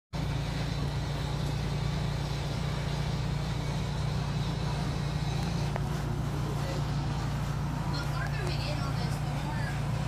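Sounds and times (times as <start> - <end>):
low machine hum: 0.2 - 10.0.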